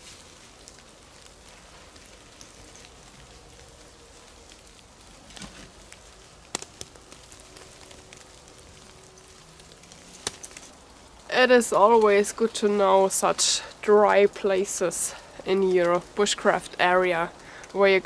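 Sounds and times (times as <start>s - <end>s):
water dripping from trees: 0.0s - 18.0s.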